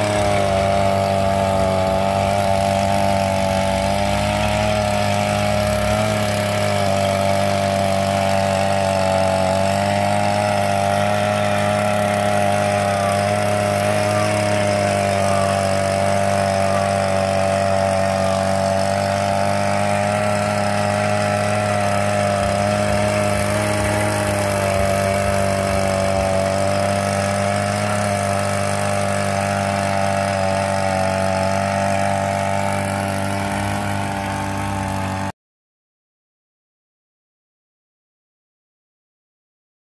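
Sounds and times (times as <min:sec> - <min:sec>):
brush cutter engine running: 0:00.0 - 0:35.3.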